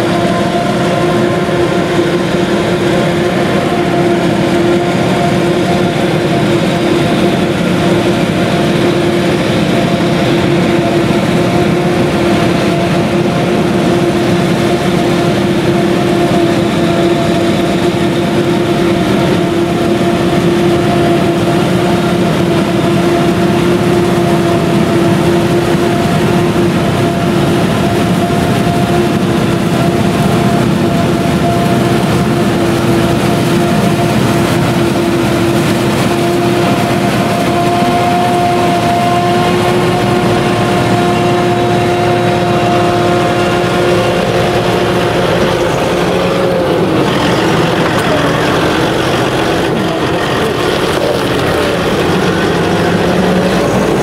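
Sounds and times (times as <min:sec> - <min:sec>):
forage harvester engine drone: 0:00.0 - 0:54.0
tractor running: 0:00.0 - 0:54.0.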